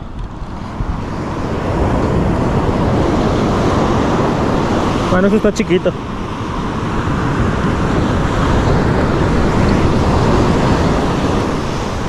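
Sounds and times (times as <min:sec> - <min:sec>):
wind rumbling on microphone: 0:00.0 - 0:12.0
surf breaking on shore: 0:00.6 - 0:12.0.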